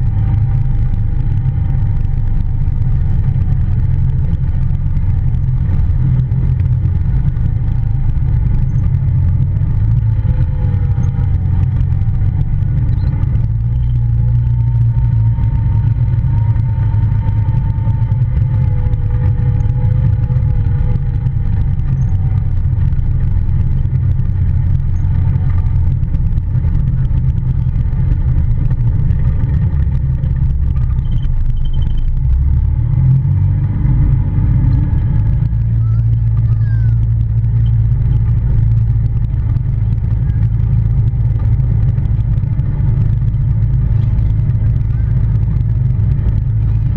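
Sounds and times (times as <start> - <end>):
drivetrain whine: 0.0 - 46.9
vehicle engine drone: 0.0 - 46.9.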